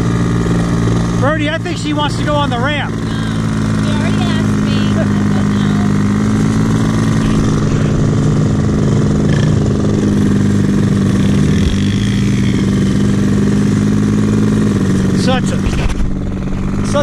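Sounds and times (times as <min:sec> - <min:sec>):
small engines running steadily: 0:00.0 - 0:17.0.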